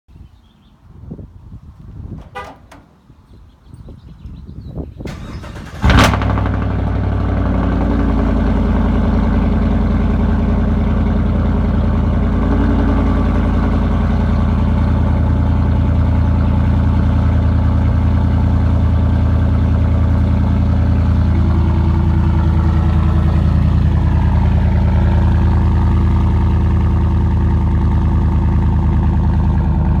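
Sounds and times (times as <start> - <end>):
loud engine idling: 5.1 - 30.0.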